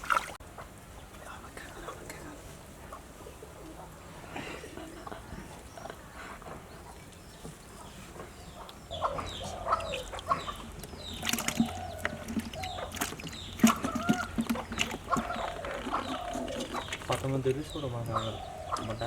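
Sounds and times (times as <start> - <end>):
chickens clucking: 2.8 - 19.0.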